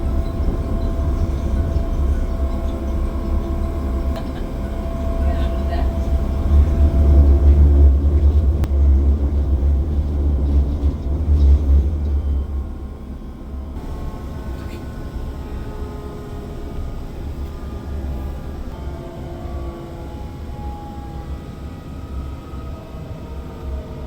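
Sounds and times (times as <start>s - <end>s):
faint steady whine: 0.0s - 23.8s
train rumbling: 0.0s - 24.0s.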